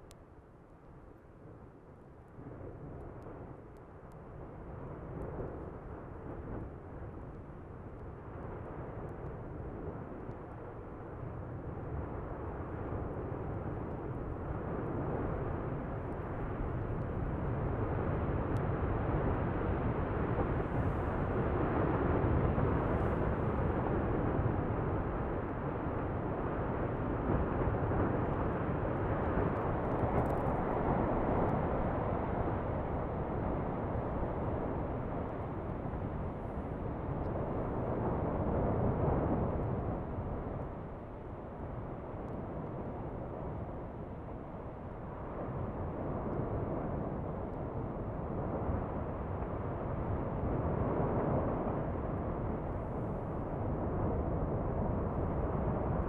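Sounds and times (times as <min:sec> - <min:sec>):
lava jetting with deep rushing: 0:01.1 - 0:56.0.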